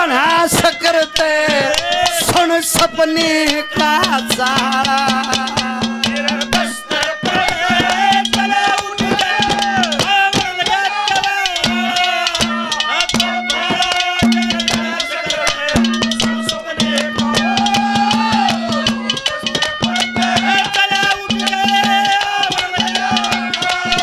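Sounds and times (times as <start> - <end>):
brisk drumming: 0.0 - 24.0
rattling percussion: 0.0 - 24.0
wavering melodic line: 3.0 - 24.0.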